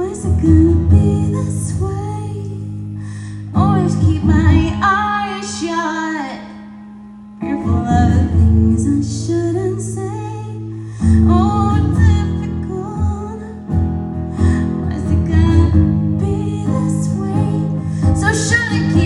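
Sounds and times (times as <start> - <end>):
woman singing: 0.0 - 6.8, 7.4 - 19.0
strummed guitar chords: 0.0 - 19.0.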